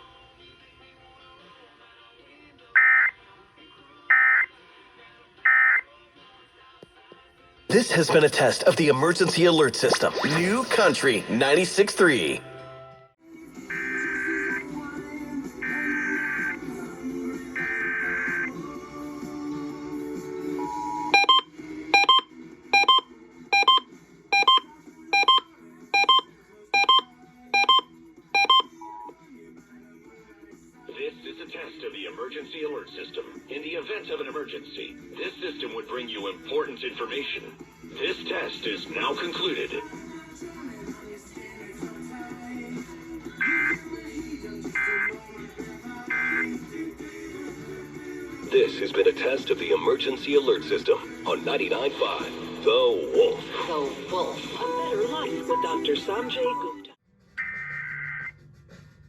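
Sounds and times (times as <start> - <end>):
music: 0.0 - 57.4, 58.2 - 59.0.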